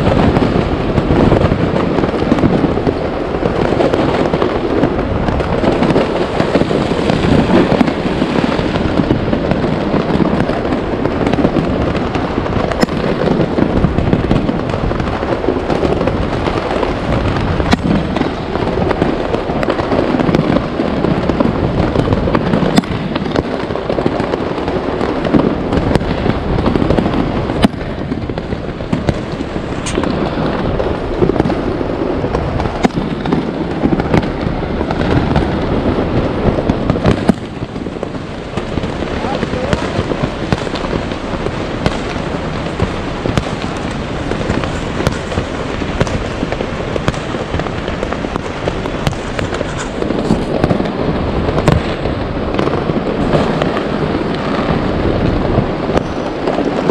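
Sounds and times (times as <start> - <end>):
fireworks crackle and rumble: 0.0 - 56.9
sharp firework cracks: 0.0 - 56.9.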